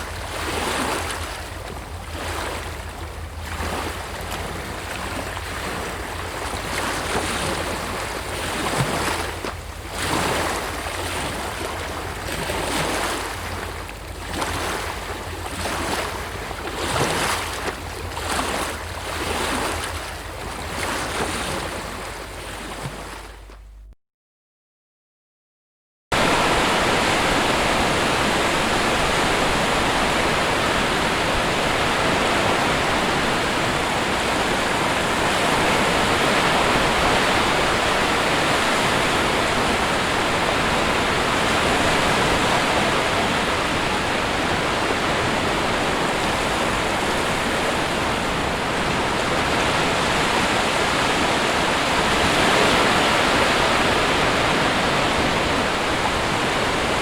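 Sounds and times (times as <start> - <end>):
sea surf rushing on shore: 0.0 - 23.6, 26.1 - 57.0.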